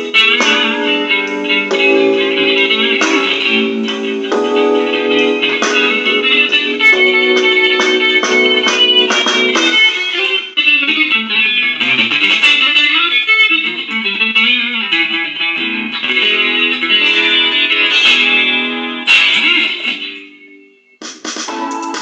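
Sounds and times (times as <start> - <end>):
electric guitar blues phrase: 0.0 - 20.5.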